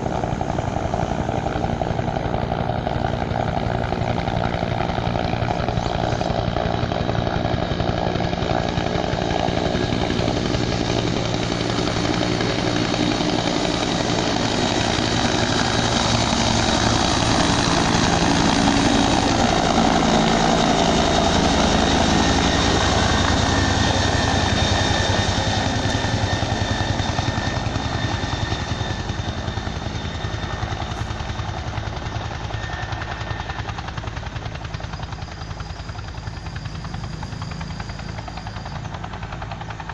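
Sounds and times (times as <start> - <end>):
aircraft engine and propeller noise: 0.0 - 39.9.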